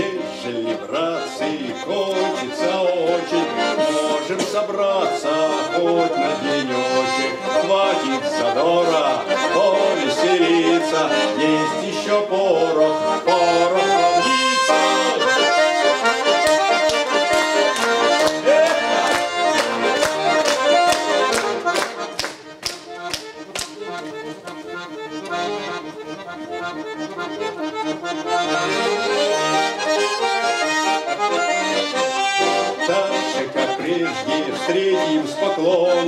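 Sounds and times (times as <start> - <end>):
button accordion folk tune: 0.0 - 36.0.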